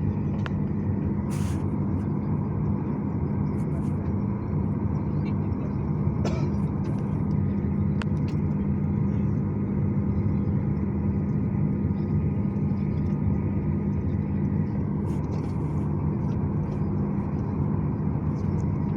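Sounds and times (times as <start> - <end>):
aircraft cabin rumble and hum: 0.0 - 18.9.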